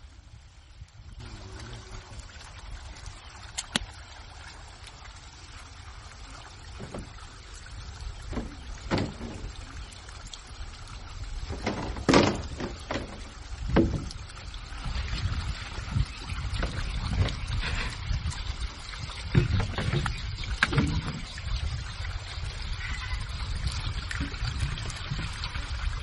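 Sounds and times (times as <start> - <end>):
water splashing: 0.9 - 26.0.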